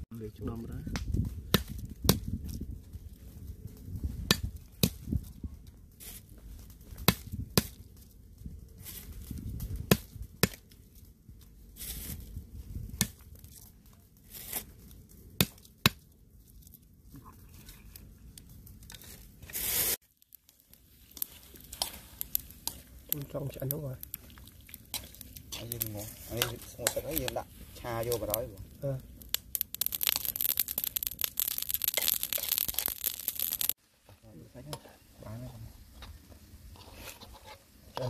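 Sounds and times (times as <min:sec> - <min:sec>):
rustling and crinkling: 0:01.0 - 0:38.0.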